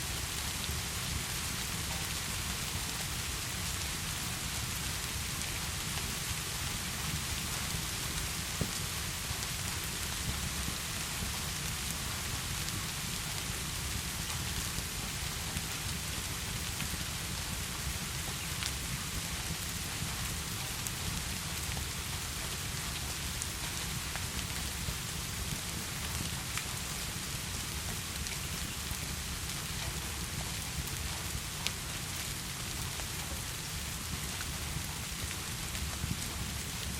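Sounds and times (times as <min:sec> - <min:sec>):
wood fire crackling: 0:00.2 - 0:36.9.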